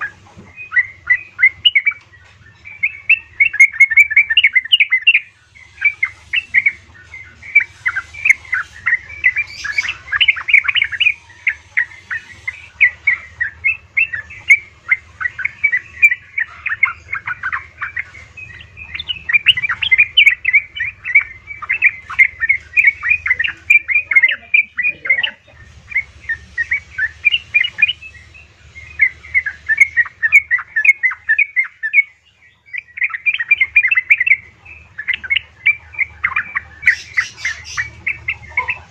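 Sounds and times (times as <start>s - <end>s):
bulbul chirpy calls: 0.0s - 38.9s
faint low hum: 0.0s - 38.9s.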